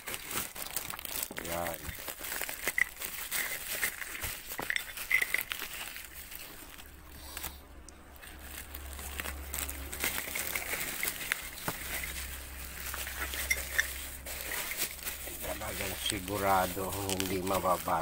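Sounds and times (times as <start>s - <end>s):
bubble wrap and plastic crinkling: 0.0s - 18.0s.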